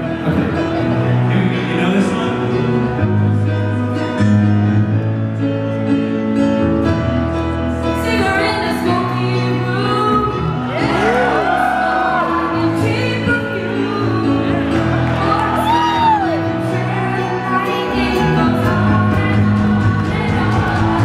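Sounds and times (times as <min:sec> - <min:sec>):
pop-rock band playing: 0:00.0 - 0:21.0.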